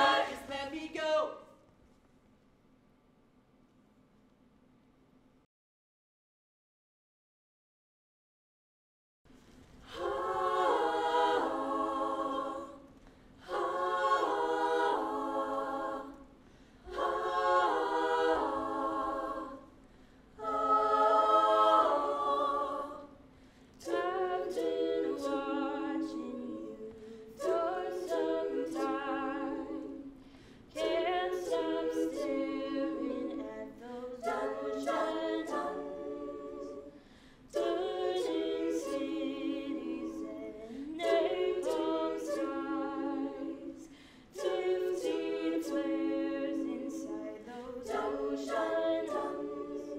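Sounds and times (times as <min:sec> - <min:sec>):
women singing in close harmony: 0:00.0 - 0:01.4, 0:09.8 - 0:19.8, 0:20.4 - 0:49.9.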